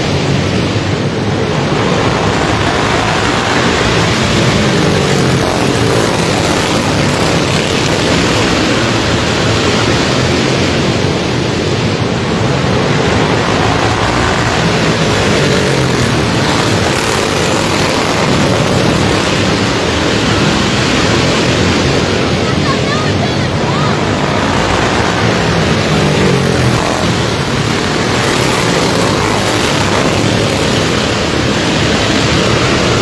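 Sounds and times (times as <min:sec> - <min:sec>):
racing lawnmower engines: 0:00.0 - 0:33.0.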